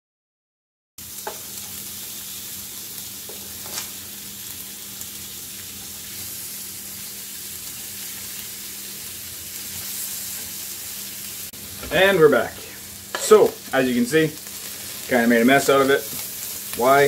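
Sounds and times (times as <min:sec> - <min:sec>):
fish sizzling in a frying pan: 0:01.0 - 0:17.0.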